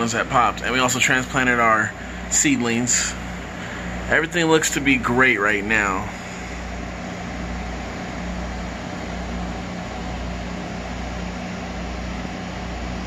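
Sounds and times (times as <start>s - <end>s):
ventilation equipment humming: 0.0s - 13.0s.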